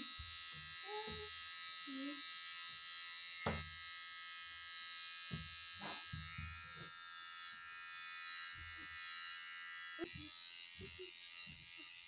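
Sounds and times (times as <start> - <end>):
hair trimmer buzzing: 0.0 - 12.0.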